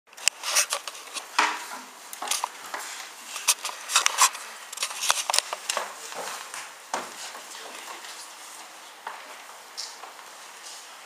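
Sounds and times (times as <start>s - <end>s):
recording device handling noise: 0.1s - 10.9s.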